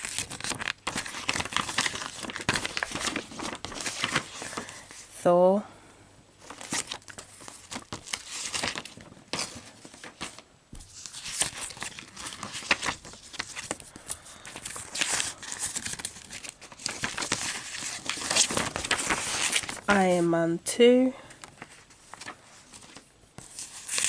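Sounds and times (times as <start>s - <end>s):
paper rustling and crinkling: 0.0s - 5.1s, 6.4s - 20.3s, 21.2s - 24.0s.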